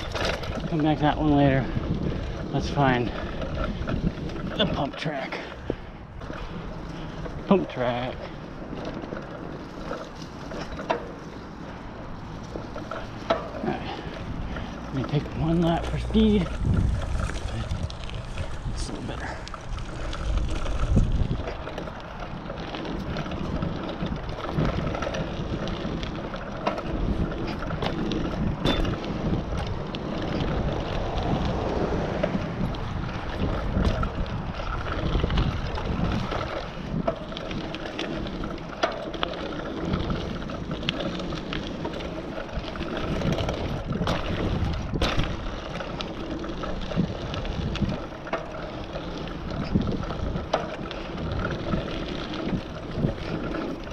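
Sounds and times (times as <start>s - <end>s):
wind rushing over microphone: 0.0s - 10.8s, 11.4s - 53.9s
bike clicks: 0.0s - 53.9s
bike tyres rolling on gravelly dirt: 0.0s - 53.9s.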